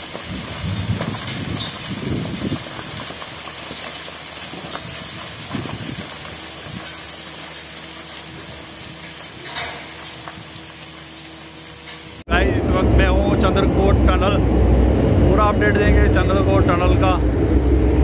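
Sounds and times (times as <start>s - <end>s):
distant construction machinery: 0.0s - 18.0s.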